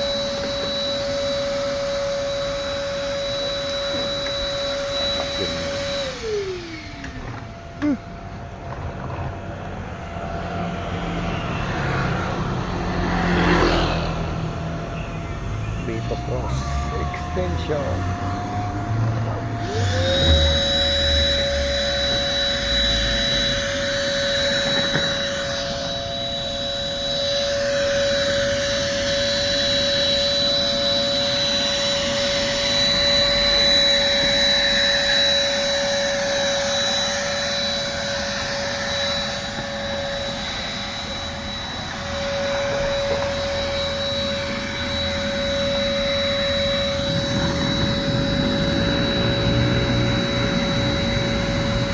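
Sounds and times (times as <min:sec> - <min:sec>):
vacuum cleaner motor whining: 0:00.0 - 0:51.9.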